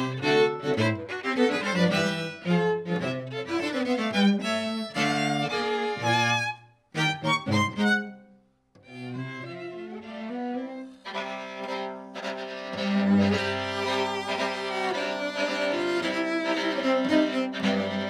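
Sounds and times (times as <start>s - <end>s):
cello low notes: 0.0s - 8.2s, 8.8s - 18.0s
violin bowed notes: 0.0s - 18.0s.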